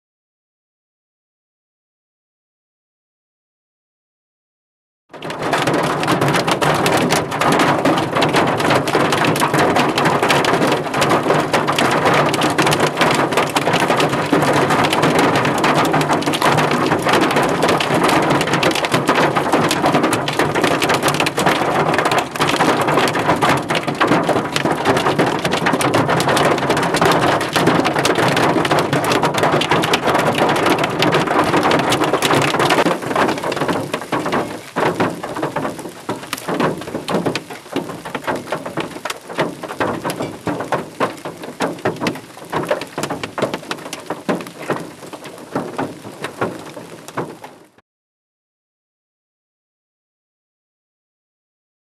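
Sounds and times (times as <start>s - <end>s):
hail falling on road: 5.2s - 47.8s
hail pounding on vehicle roof: 5.2s - 47.8s.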